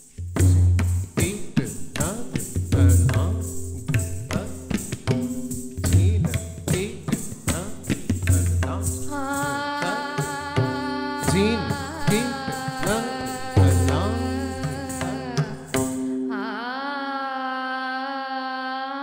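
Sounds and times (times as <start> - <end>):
tabla playing: 0.0 - 16.4.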